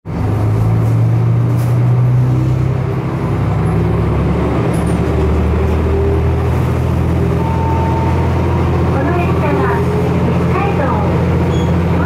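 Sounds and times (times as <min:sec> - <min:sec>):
diesel railcar engine idling: 0:00.1 - 0:12.0.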